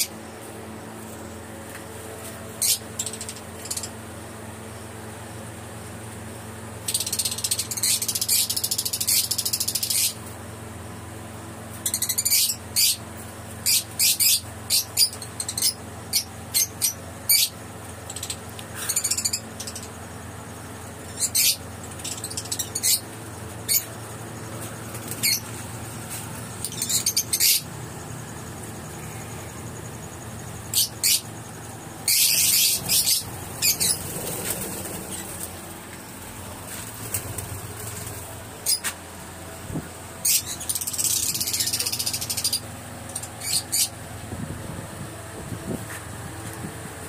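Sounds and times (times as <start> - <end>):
lovebirds shrill chatter: 2.5 - 5.4, 6.8 - 10.3, 11.7 - 46.0.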